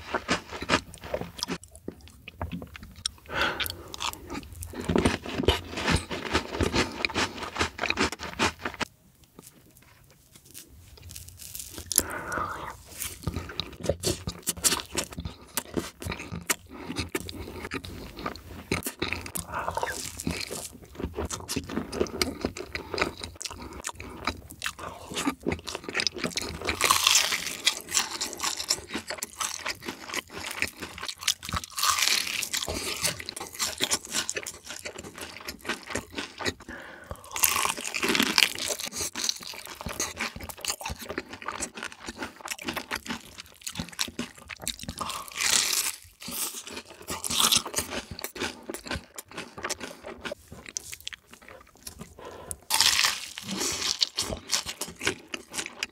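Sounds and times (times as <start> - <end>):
person chewing crispy chicken: 0.0 - 55.9.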